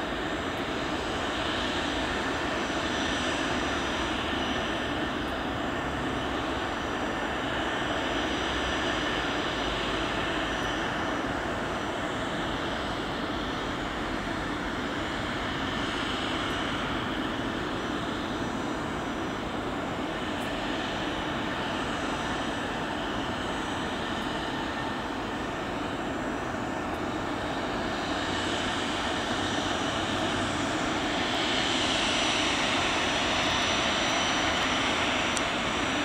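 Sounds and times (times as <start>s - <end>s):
high-pitched engine whine: 0.0s - 36.0s
jet engines rushing hiss: 0.0s - 36.0s.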